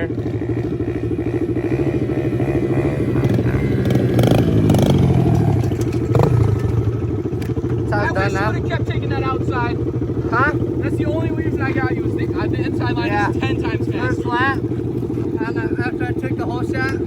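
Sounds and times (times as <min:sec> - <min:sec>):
pit bike engines running: 0:00.0 - 0:17.0.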